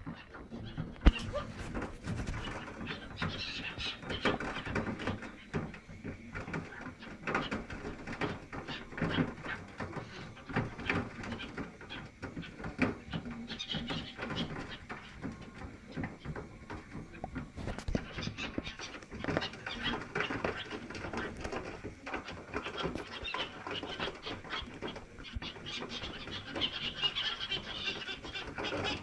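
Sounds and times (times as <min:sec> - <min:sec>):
bird calls: 0:00.0 - 0:29.0
wing flutters: 0:00.0 - 0:29.0.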